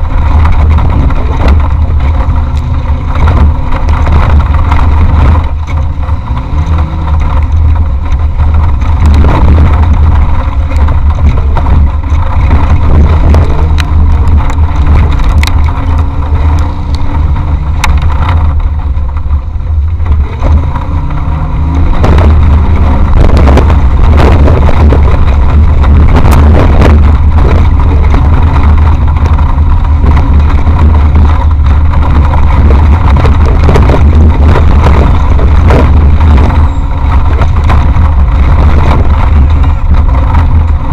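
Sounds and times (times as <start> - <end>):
knocks and rattles from rough ground: 0.0 - 40.9
race vehicle engine running hard: 0.0 - 40.9.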